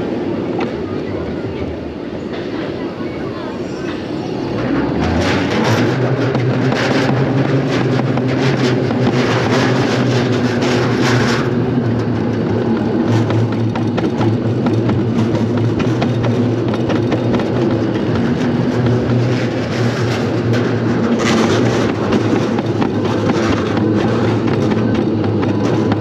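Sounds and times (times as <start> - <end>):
toboggan sled rumbling in metal trough: 4.6 - 26.0.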